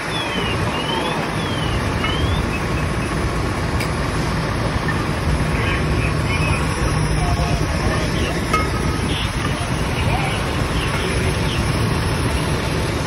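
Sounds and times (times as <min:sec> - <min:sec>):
fire engine rumbling: 0:00.0 - 0:13.0.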